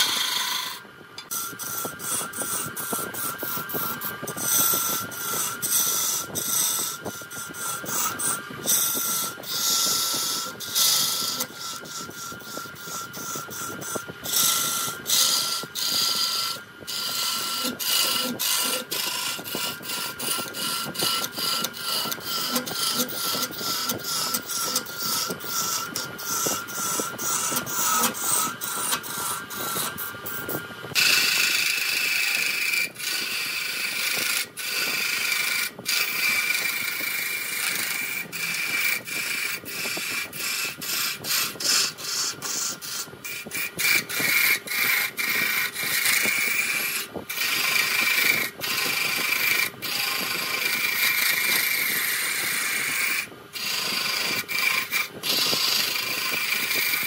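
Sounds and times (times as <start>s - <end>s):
chisel scratching spinning wood: 0.0s - 57.0s
wood lathe whine: 0.0s - 57.0s.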